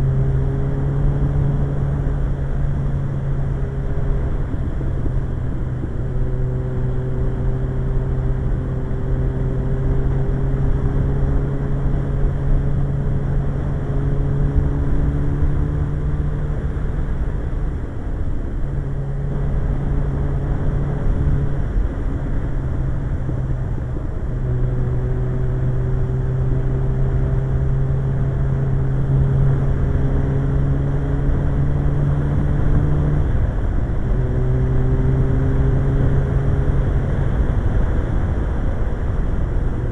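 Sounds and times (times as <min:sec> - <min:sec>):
motorcycle engine running: 0:00.0 - 0:39.9
wind rumble: 0:00.0 - 0:39.9.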